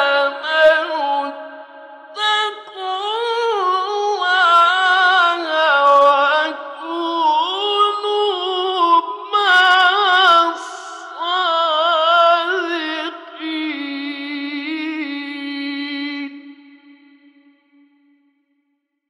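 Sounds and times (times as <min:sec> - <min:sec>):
man chanting melodically: 0:00.0 - 0:16.4.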